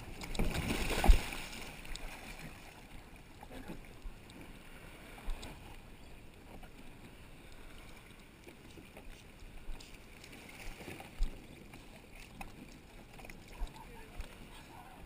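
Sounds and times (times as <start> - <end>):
water lapping against kayak hull: 0.0 - 15.0.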